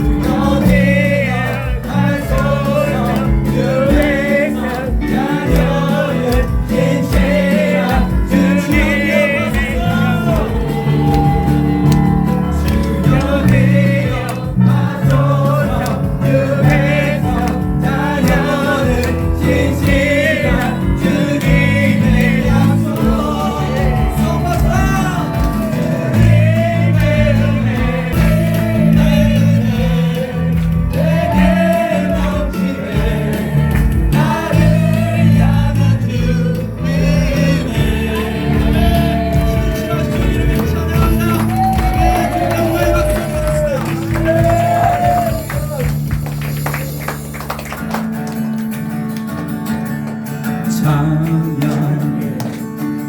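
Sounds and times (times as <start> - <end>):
voices singing with vibrato: 0.0 - 47.2
band with bass and drums: 0.0 - 53.0.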